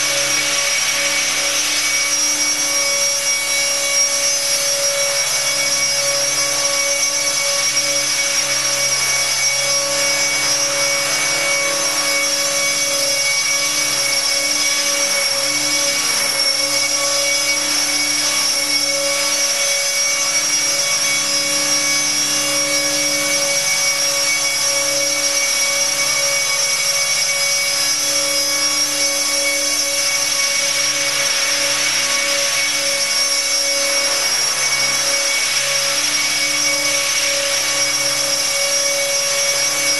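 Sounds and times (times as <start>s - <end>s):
electric motor high whine: 0.0s - 39.9s.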